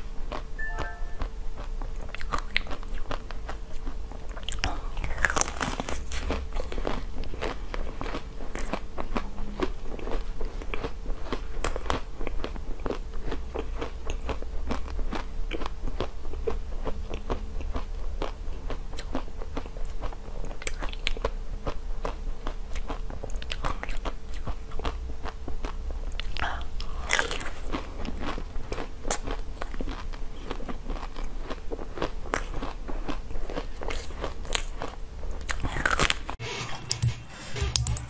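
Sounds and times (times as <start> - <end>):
faint steady hum: 0.0 - 38.0
ice cream shell crunching: 1.6 - 36.4.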